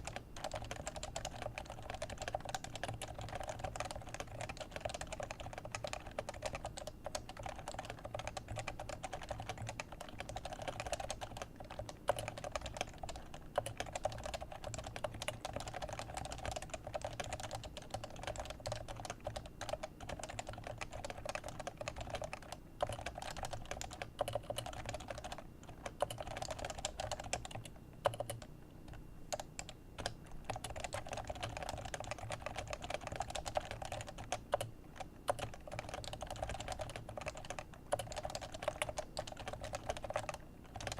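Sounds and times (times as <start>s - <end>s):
keyboard typing: 0.0s - 40.9s.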